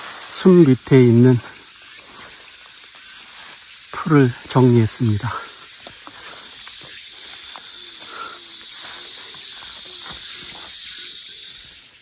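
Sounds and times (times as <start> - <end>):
insect chorus hissing: 0.0 - 12.0.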